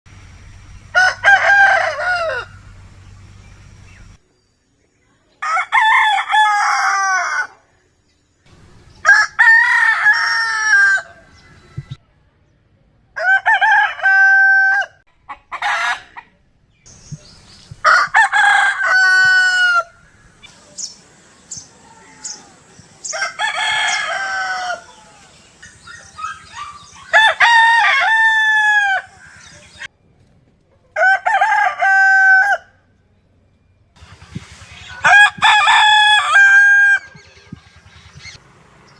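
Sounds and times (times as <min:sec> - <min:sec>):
roosters crowing: 0:00.8 - 0:04.0, 0:05.4 - 0:07.6, 0:08.5 - 0:12.0, 0:13.2 - 0:16.2, 0:16.9 - 0:29.9, 0:30.9 - 0:32.8, 0:34.0 - 0:38.9.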